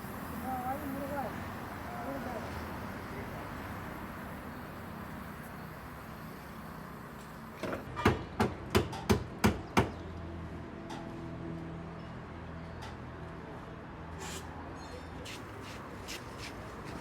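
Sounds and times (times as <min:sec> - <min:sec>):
workshop background noise: 0:00.0 - 0:10.1, 0:12.6 - 0:17.0.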